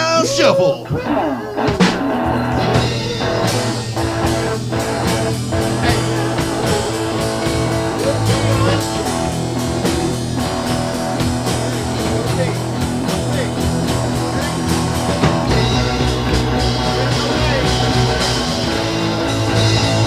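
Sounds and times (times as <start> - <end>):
blues-rock guitar and drums: 0.8 - 20.0.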